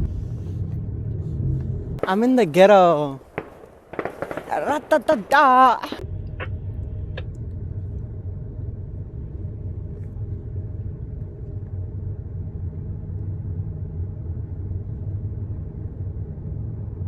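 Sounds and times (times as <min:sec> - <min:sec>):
car engine idling: 0:00.0 - 0:04.2, 0:06.0 - 0:17.0.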